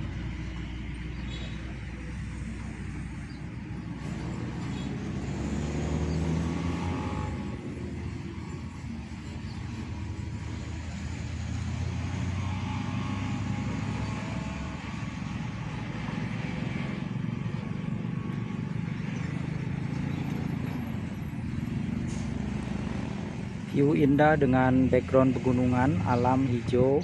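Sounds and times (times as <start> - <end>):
heavy vehicle engines rumbling: 0.0 - 27.0.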